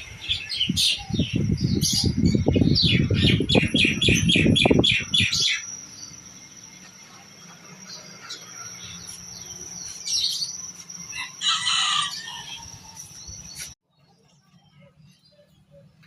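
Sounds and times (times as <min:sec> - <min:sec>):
steady high-pitched trill: 0:00.0 - 0:13.8
birds calling and chirping: 0:00.0 - 0:16.0.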